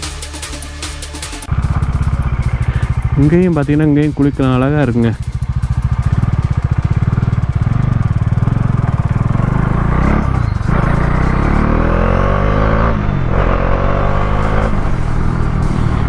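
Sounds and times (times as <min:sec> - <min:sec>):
motorcycle engine accelerating: 0:01.4 - 0:16.0.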